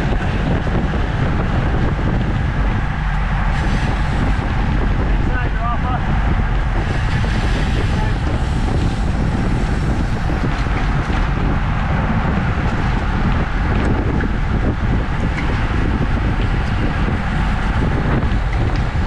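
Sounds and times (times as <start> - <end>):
wind noise over microphone: 0.0 - 19.0.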